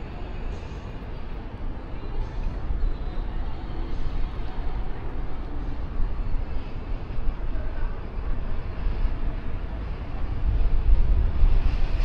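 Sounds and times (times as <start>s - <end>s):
road noise: 0.0s - 12.0s
wind rumbling over microphone: 0.0s - 12.0s.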